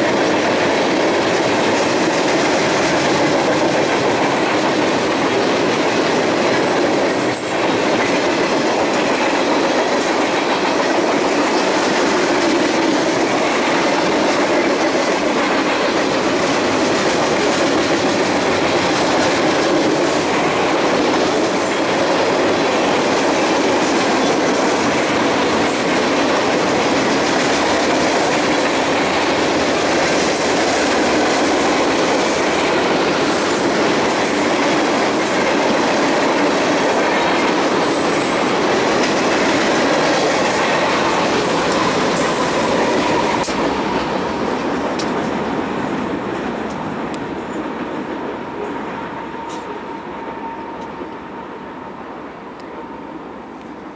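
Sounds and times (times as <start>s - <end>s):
train wheels clacking on rails: 0.0s - 51.9s.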